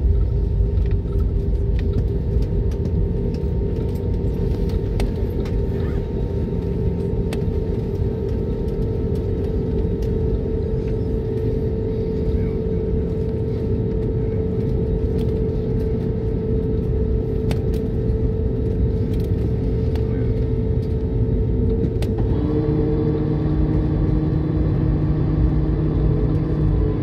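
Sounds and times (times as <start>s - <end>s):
airplane cabin rumble: 0.0s - 27.0s
steady hum: 0.0s - 27.0s.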